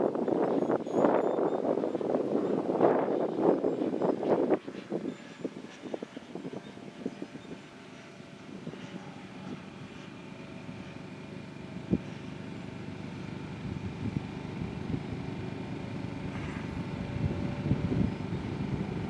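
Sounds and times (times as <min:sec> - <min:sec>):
distant electric plane whine: 0:00.0 - 0:19.0
wind buffeting microphone: 0:00.0 - 0:19.0.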